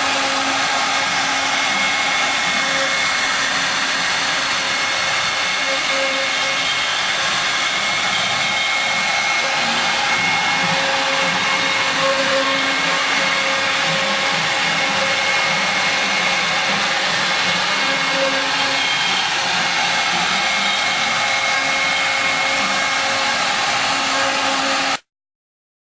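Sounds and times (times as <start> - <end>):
router spindle milling wood: 0.0 - 25.0.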